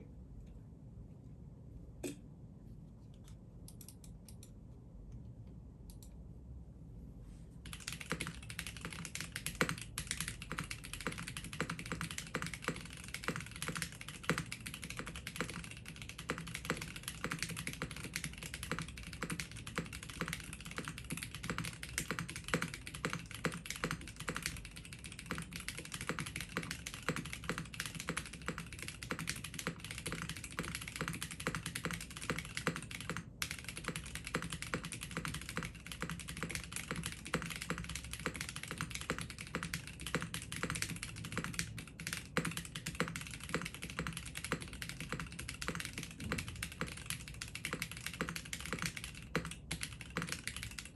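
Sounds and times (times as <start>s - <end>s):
mechanical keyboard typing: 7.6s - 50.9s.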